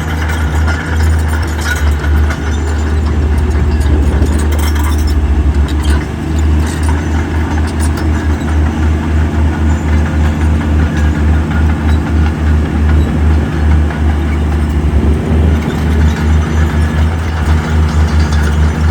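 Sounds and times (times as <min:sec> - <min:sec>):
heavy diesel engine rumbling: 0:00.0 - 0:18.9
sharp metallic clanks: 0:00.0 - 0:18.9.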